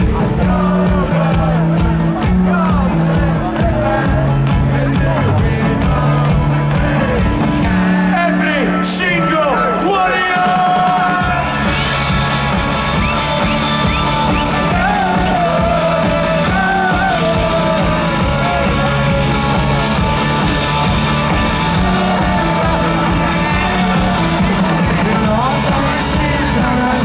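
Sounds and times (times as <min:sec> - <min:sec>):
drum beat: 0:00.0 - 0:08.0, 0:10.4 - 0:27.0
rock band playing: 0:00.0 - 0:27.0
singer: 0:00.0 - 0:27.0.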